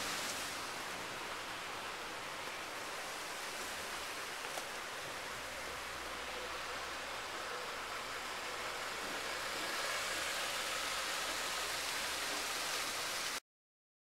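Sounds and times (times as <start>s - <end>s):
steady outdoor hiss: 0.0s - 13.4s.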